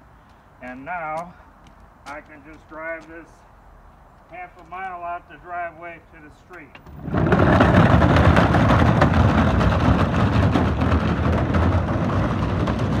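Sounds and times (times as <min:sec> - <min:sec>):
wheels crunching on gravel: 0:00.2 - 0:13.0.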